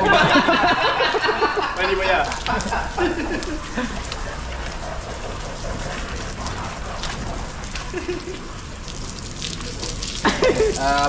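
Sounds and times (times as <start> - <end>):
hose water splashing on concrete: 0.0 - 11.0.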